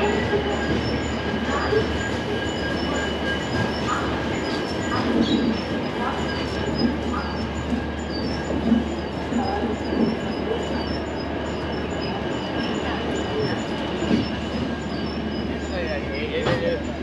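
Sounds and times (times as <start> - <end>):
light knocking of train: 0.0 - 17.0
train coach running noise: 0.0 - 17.0.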